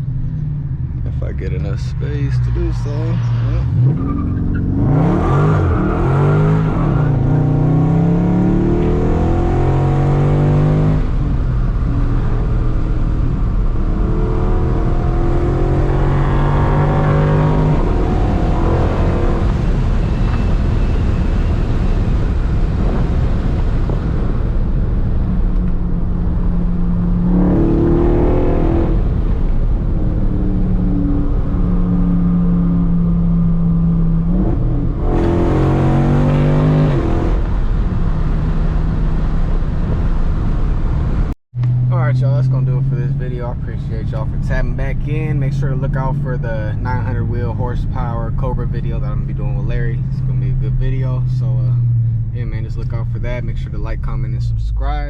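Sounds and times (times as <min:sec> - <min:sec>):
car engine revving while driving: 0:01.1 - 0:55.0.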